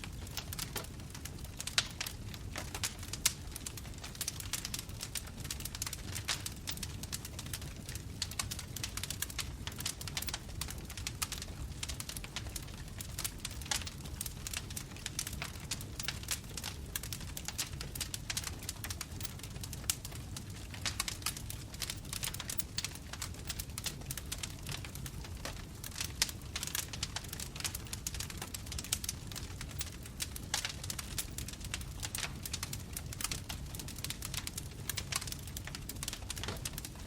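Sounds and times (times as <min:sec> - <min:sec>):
bonfire crackling: 0:00.0 - 0:37.0.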